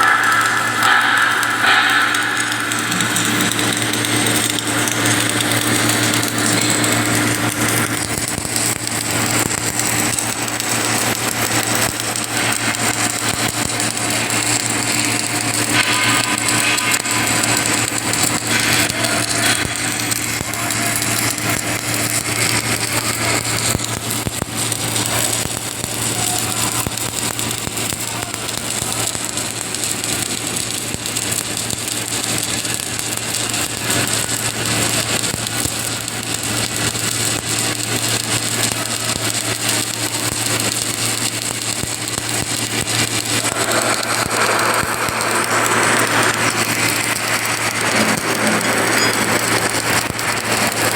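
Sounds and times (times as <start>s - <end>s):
welding hiss: 0.0s - 50.9s
welding machine electrical hum: 0.0s - 50.9s.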